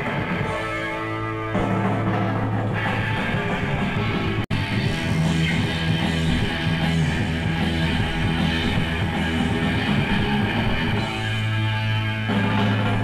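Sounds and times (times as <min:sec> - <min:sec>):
heavy rock music with guitar: 0:00.0 - 0:13.0.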